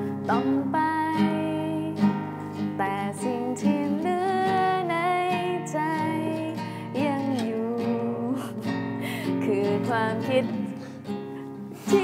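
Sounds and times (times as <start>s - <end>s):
acoustic guitar strumming: 0.0s - 12.0s
woman singing: 0.0s - 12.0s.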